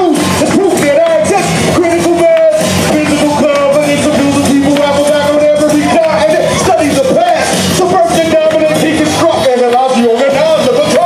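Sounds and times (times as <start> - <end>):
loud live amplified music: 0.0 - 11.0.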